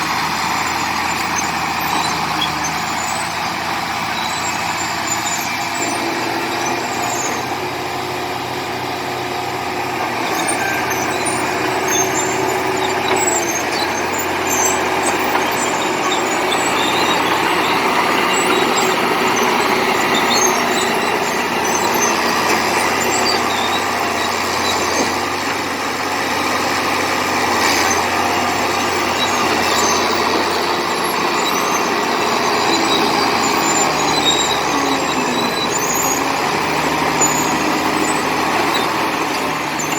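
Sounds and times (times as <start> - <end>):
bulldozer diesel engine: 0.0 - 39.9
faint high ticks and squeaks: 0.6 - 7.7, 10.2 - 25.6, 27.4 - 39.9.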